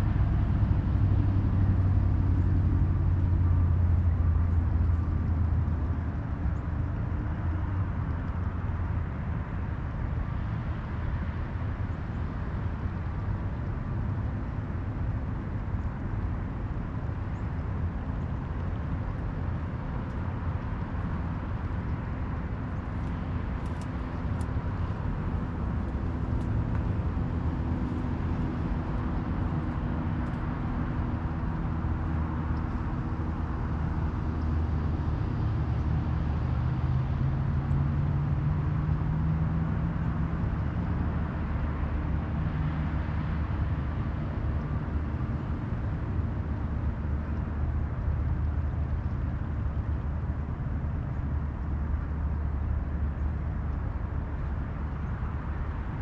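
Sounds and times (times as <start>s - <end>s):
distant engines rumbling: 0.0s - 56.0s.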